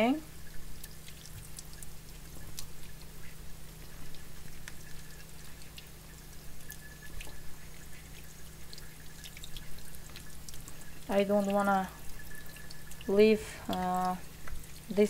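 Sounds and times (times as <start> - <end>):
small drips and clicks: 0.0 - 15.0
tap water running: 0.0 - 15.0.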